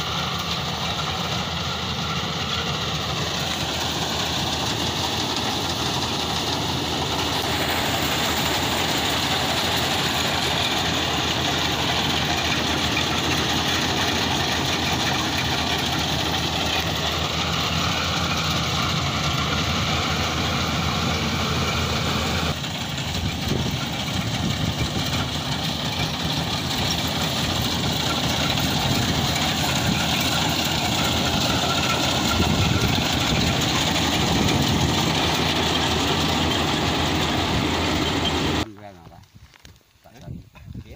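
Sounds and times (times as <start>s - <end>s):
combine harvester running: 0.0s - 38.7s.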